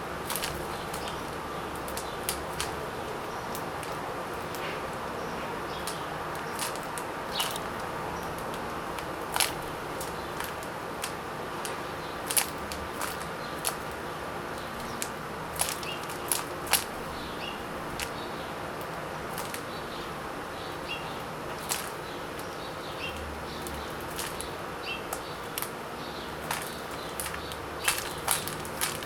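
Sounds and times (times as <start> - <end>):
sharp clicks of birds feeding: 0.0 - 29.0.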